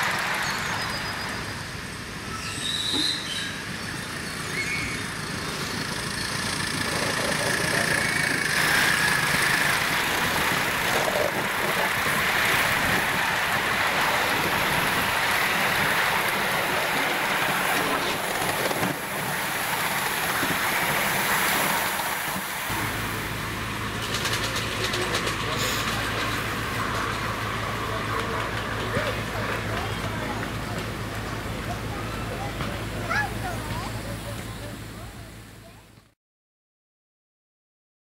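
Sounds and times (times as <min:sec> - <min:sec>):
model steam locomotive running: 0:00.0 - 0:35.9.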